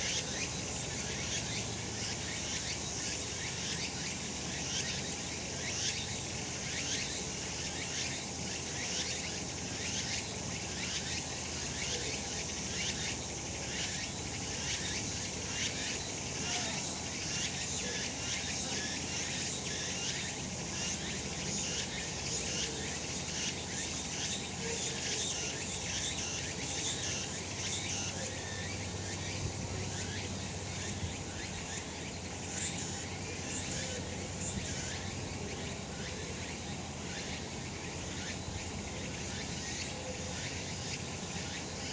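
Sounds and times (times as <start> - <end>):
cicadas buzzing: 0.0 - 41.9.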